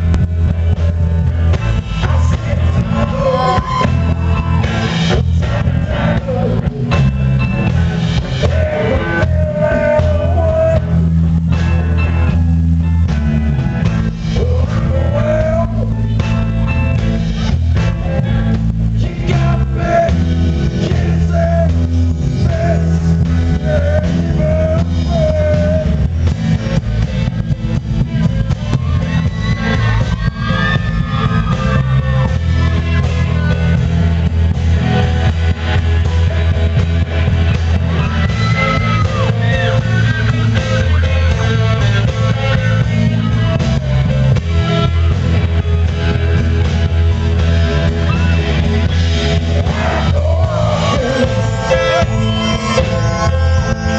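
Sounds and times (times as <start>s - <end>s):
gliding melodic lead line: 0.0s - 53.9s
rock band playing: 0.0s - 53.9s.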